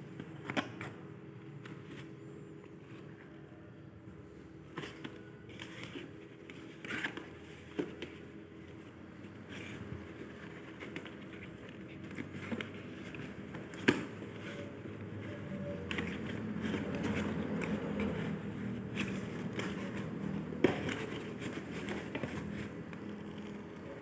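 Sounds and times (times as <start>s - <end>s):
faint hum: 0.0s - 24.0s
packaging rustling: 4.8s - 24.0s.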